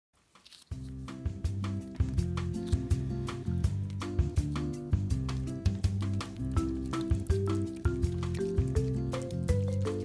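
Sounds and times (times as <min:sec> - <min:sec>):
background music with steady beat: 0:00.2 - 0:10.0.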